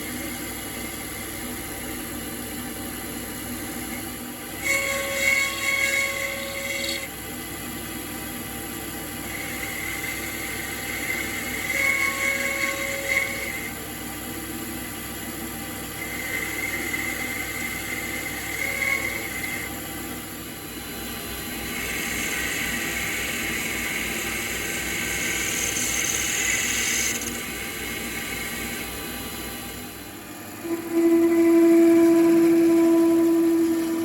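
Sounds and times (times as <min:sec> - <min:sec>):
power tool running with whine: 0:00.0 - 0:34.0.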